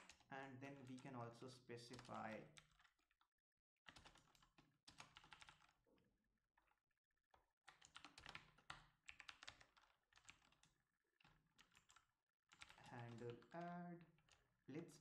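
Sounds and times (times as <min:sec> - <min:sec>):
typing on computer keyboard: 0:00.0 - 0:03.1, 0:03.9 - 0:05.8, 0:07.7 - 0:15.0.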